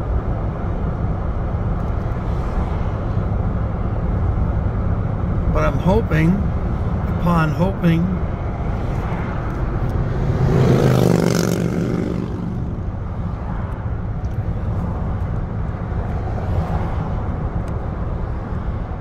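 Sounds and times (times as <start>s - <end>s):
road and engine noise: 0.0s - 19.0s.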